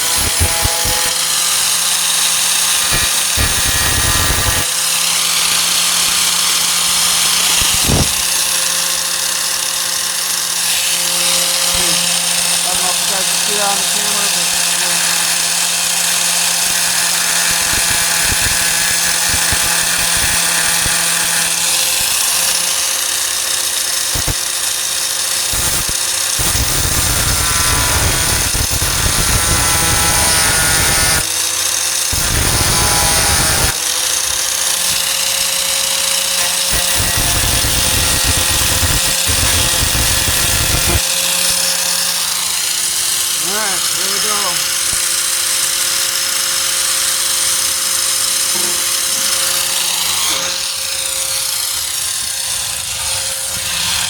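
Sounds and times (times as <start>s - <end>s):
angle grinder grinding metal: 0.0s - 54.0s.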